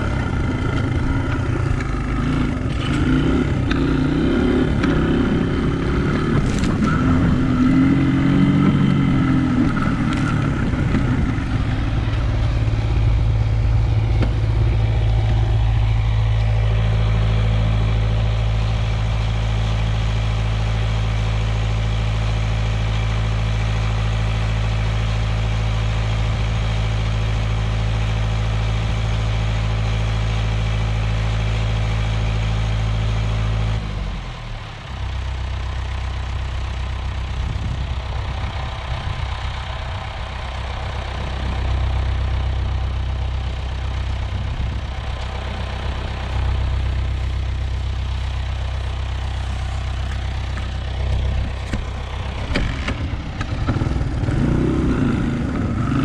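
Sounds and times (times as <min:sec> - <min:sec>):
off-road motorcycle engine: 0:00.0 - 0:56.0
steady engine hum: 0:00.0 - 0:56.0.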